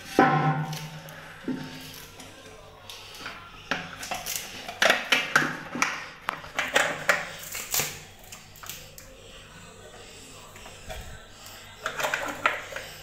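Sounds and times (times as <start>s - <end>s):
plastic scraping against ceramic: 0.0s - 13.0s.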